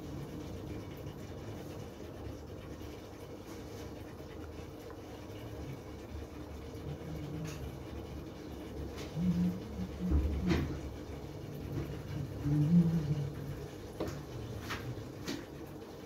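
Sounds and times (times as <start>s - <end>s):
aquarium air pump humming: 0.0s - 16.0s.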